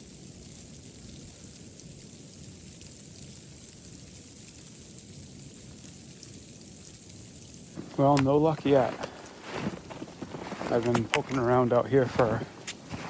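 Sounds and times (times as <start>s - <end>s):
snowstorm hiss: 0.0s - 13.0s.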